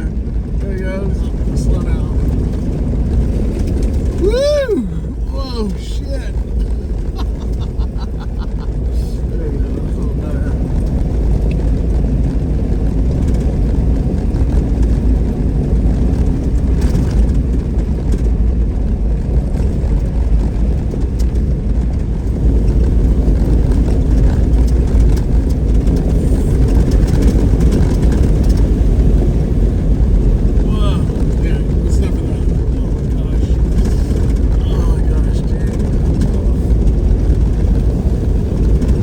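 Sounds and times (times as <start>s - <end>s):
vehicle driving on gravel road: 0.0s - 39.0s.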